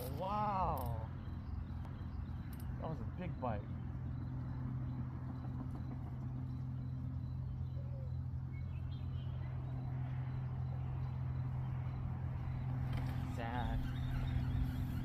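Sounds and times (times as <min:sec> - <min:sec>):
faint bird chirps: 0:00.0 - 0:15.0
low engine hum: 0:00.0 - 0:15.0.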